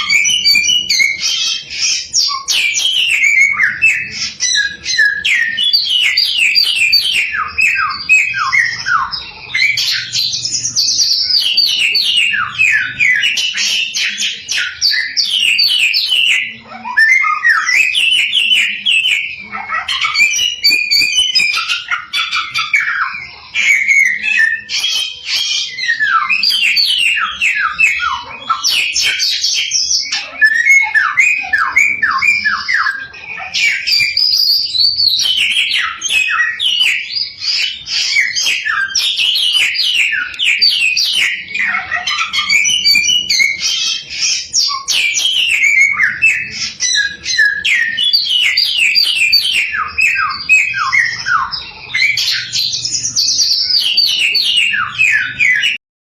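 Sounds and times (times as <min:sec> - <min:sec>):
songbird singing: 0:00.0 - 0:55.8.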